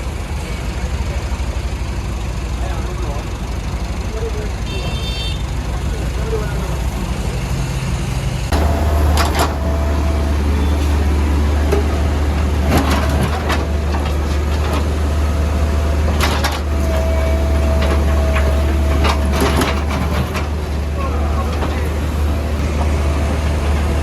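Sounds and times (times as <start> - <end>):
diesel engine working under load: 0.0 - 24.0.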